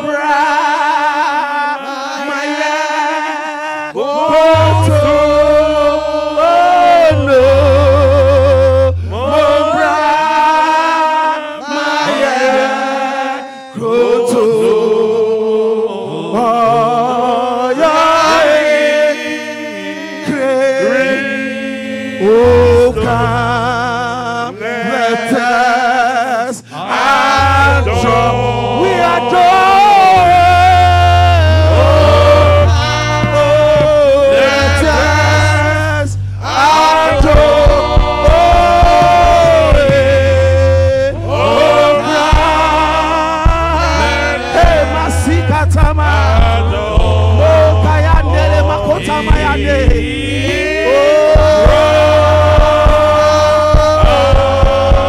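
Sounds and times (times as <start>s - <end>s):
people singing worship song: 0.0s - 55.0s
low bass notes: 4.0s - 11.0s, 16.2s - 55.0s.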